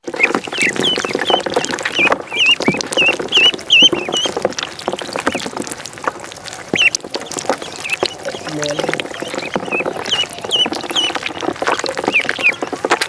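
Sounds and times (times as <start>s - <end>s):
ducklings peeping: 0.0s - 13.0s
small splashes of pond water: 0.1s - 13.0s.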